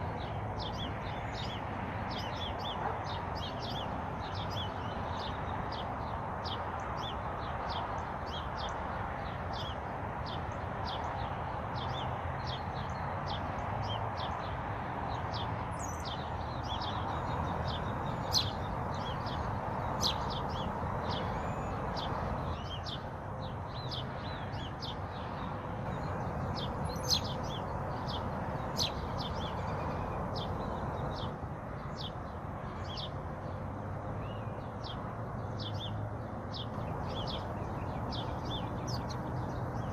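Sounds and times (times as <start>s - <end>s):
low rushing background noise: 0.0s - 39.9s
songbirds chirping: 0.0s - 39.9s.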